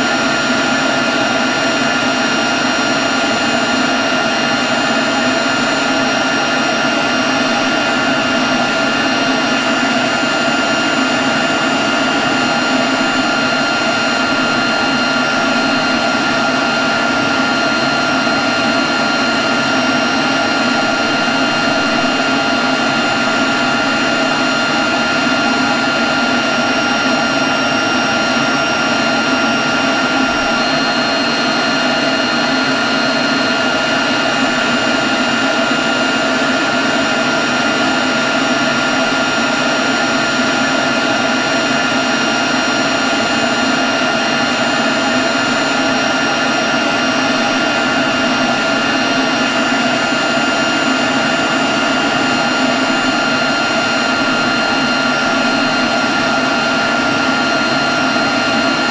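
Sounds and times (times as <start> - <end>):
leaf blower running: 0.0 - 58.9.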